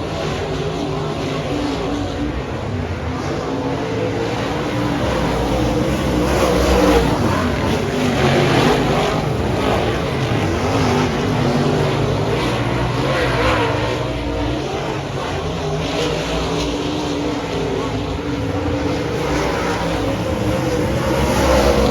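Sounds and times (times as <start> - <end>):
race car engines: 0.0 - 21.9.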